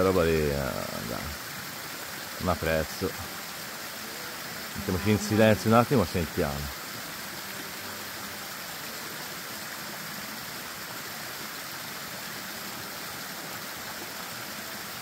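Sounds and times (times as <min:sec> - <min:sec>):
stream water rushing and splashing: 0:00.0 - 0:15.0.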